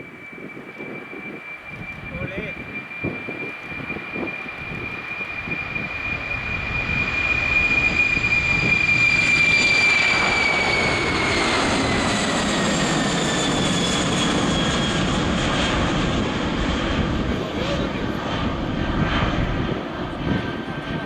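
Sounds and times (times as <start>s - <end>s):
high jet whine: 0.0s - 21.0s
jet engines roaring: 0.0s - 21.0s.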